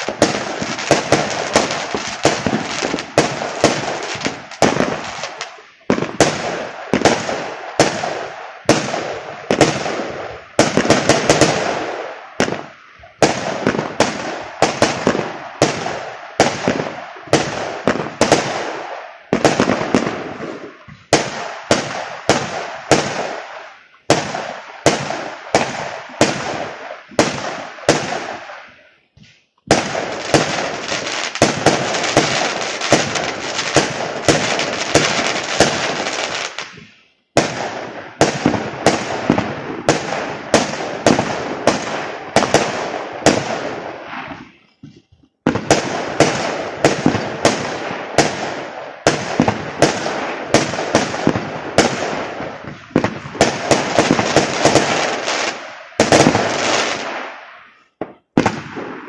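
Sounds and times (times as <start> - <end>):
fireworks bangs with crackle: 0.0 - 59.0.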